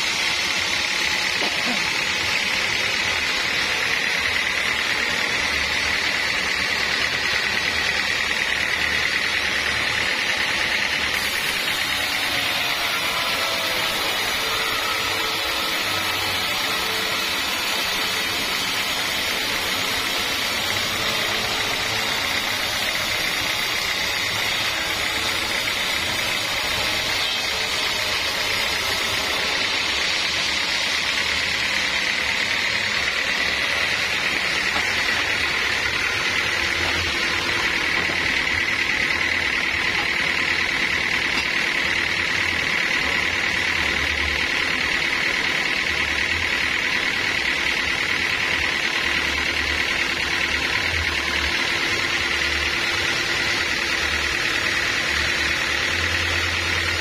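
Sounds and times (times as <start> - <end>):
high whine: 0.0 - 46.9
sawmill mechanical drone: 0.0 - 57.0.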